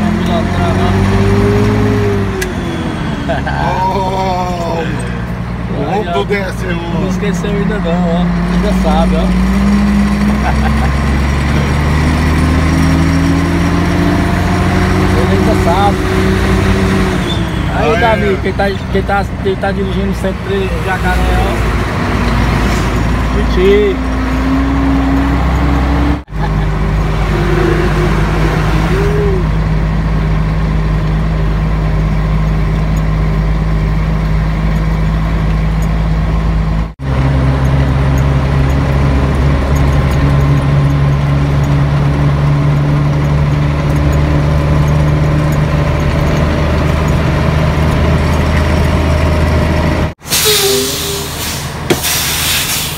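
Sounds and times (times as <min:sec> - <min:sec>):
road noise: 0:00.0 - 0:52.9
truck diesel engine running: 0:00.0 - 0:52.9.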